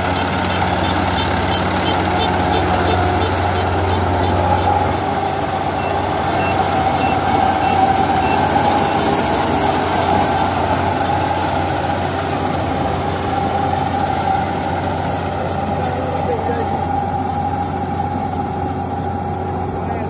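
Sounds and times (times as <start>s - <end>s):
combine harvester drone: 0.0s - 20.0s.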